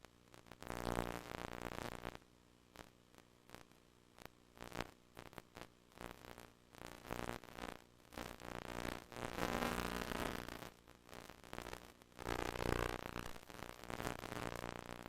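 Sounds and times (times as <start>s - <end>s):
crackly static bursts: 0.0s - 15.0s
low tape buzz: 0.0s - 15.0s.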